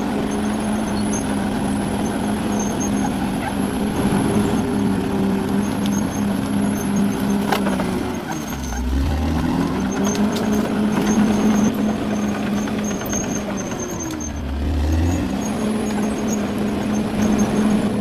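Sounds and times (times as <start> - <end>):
bulldozer engine running: 0.0 - 18.0.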